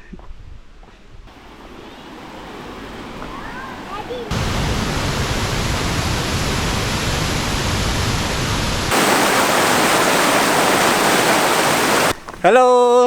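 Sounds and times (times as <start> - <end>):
rushing water: 1.3 - 12.5.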